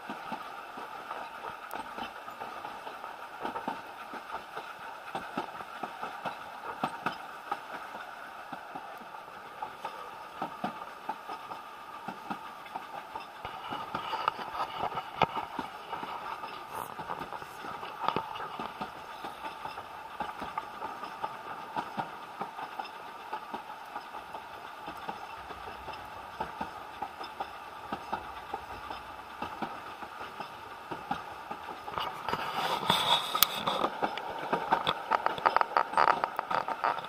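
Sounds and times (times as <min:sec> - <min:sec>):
train carriage rumbling: 0:00.0 - 0:37.0
train wheels clicking and rattling: 0:00.0 - 0:37.0.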